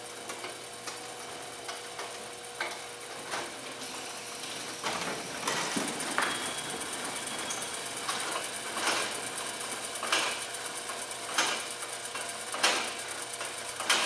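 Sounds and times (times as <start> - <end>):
machine hum: 0.0 - 12.6.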